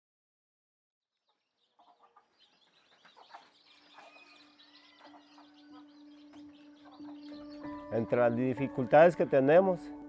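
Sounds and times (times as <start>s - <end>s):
small birds chirping: 1.1s - 10.0s
chickens clucking: 1.2s - 9.7s.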